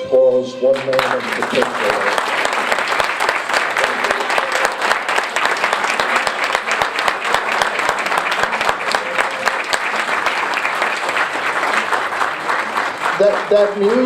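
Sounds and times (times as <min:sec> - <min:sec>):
audience applauding: 0:00.8 - 0:14.0.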